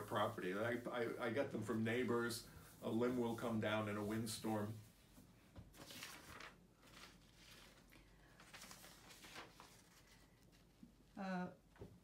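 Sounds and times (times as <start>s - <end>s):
faint soft rustles: 0.0s - 11.2s.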